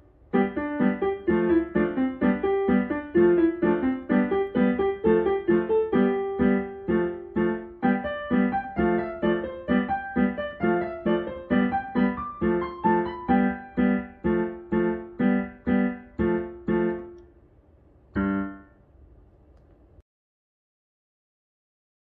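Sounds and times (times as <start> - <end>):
piano playing chords and melody: 0.0 - 17.2, 18.1 - 18.8.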